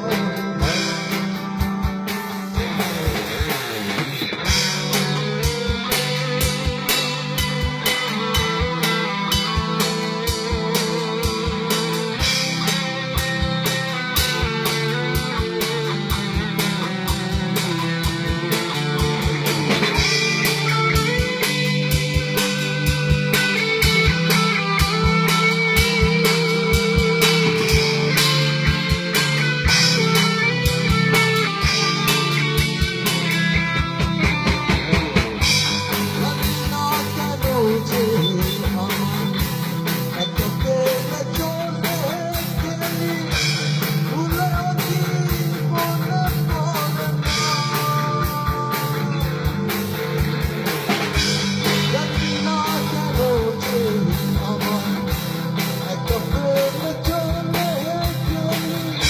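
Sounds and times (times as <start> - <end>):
person singing: 0.0 - 49.6, 51.6 - 59.0
rock band playing: 0.0 - 59.0.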